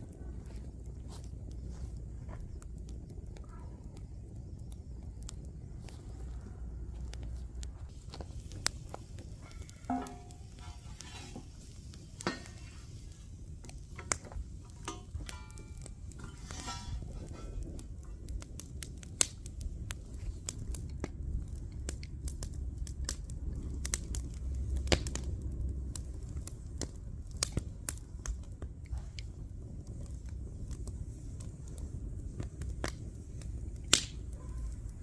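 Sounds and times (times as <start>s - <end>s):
steady low rumble: 0.0s - 35.0s
wood fire crackling and popping: 0.0s - 35.0s.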